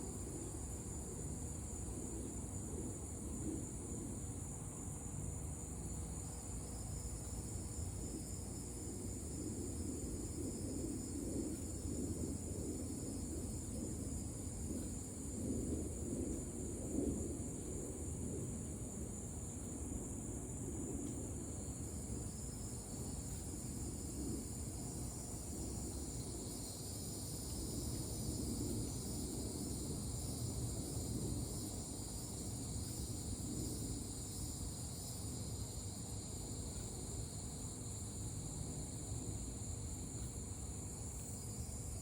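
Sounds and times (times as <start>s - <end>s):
crickets and cicadas chirring: 0.0s - 42.0s
pulsing insect trill: 5.9s - 42.0s.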